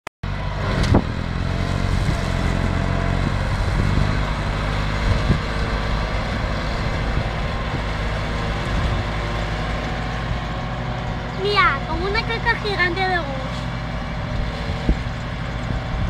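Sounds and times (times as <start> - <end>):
tractor engine running: 0.2 - 16.0.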